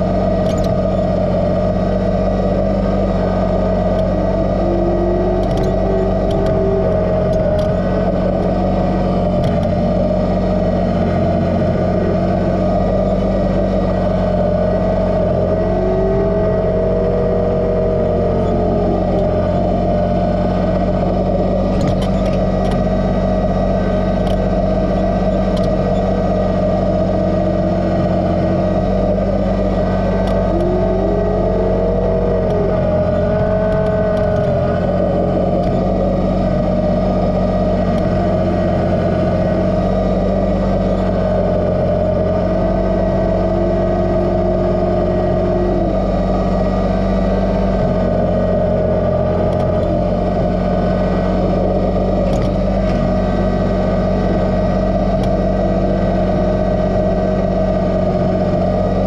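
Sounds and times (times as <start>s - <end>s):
tractor diesel engine running: 0.0s - 59.0s
whine rising and falling: 0.0s - 59.0s.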